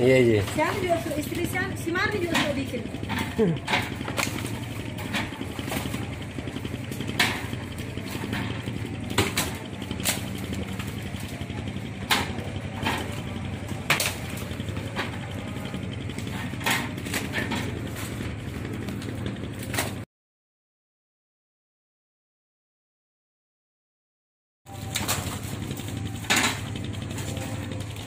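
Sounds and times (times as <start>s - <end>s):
low machine hum: 0.0s - 20.0s, 24.7s - 28.0s.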